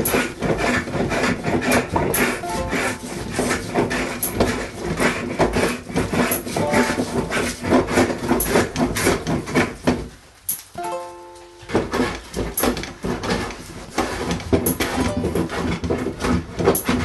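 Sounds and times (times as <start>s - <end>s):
hand tool scraping wood: 0.0s - 10.1s, 11.7s - 17.0s.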